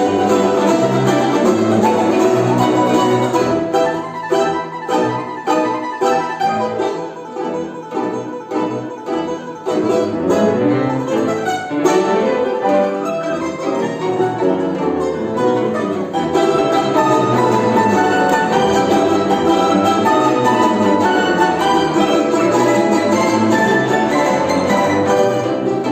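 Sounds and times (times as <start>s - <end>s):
string ensemble playing: 0.0s - 25.9s.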